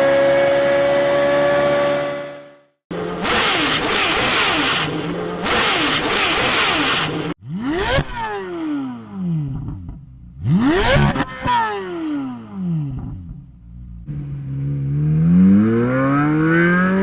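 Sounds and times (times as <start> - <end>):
engine free revs: 0.0 - 17.0
car engine accelerating: 2.9 - 17.0.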